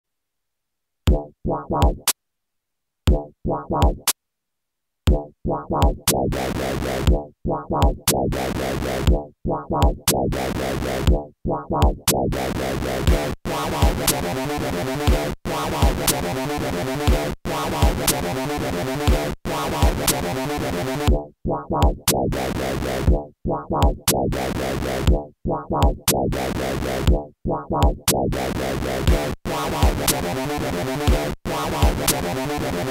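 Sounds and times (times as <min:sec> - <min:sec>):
drum machine kicks: 0:01.1 - 0:02.2, 0:03.1 - 0:04.2, 0:05.1 - 0:06.4, 0:07.0 - 0:08.4, 0:09.0 - 0:14.3, 0:15.0 - 0:16.4, 0:17.0 - 0:18.3, 0:19.0 - 0:32.5
synth bass notes: 0:05.1 - 0:32.9.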